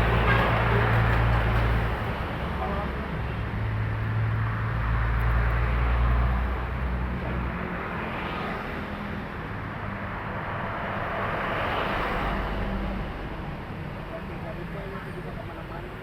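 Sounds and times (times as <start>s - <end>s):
tyres and wind rushing by: 0.0s - 16.0s.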